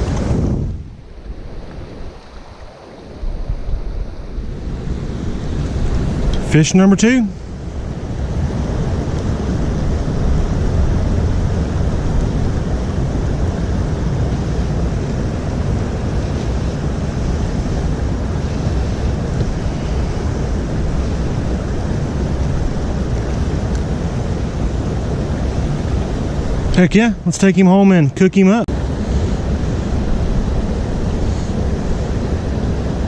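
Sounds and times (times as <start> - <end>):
wind buffeting microphone: 0.0 - 33.0
creek flowing: 1.0 - 33.0.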